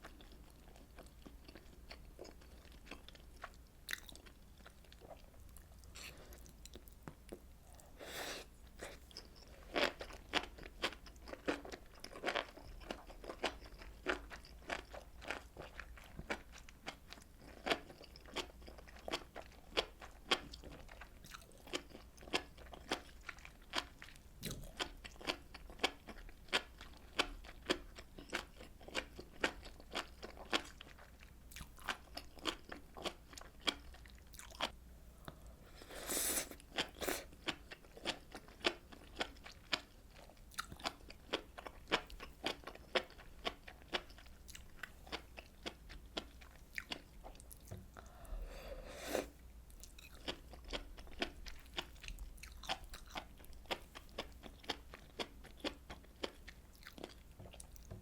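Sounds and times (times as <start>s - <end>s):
person chewing wet food: 0.0s - 58.0s.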